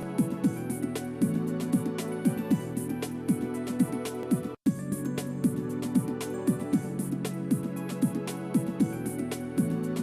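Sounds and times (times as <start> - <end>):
instrumental music with regular beat: 0.0 - 10.0.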